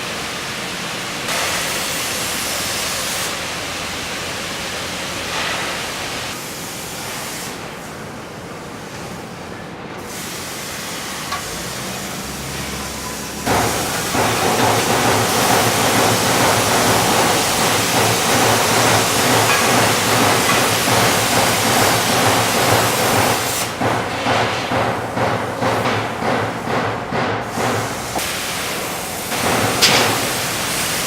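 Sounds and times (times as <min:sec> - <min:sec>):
workshop background noise: 0:00.0 - 0:31.0
welding arc hissing and crackling: 0:00.1 - 0:07.9, 0:10.0 - 0:31.0.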